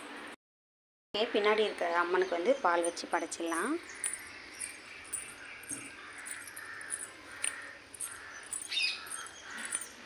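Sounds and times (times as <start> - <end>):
birds calling: 1.3 - 10.0.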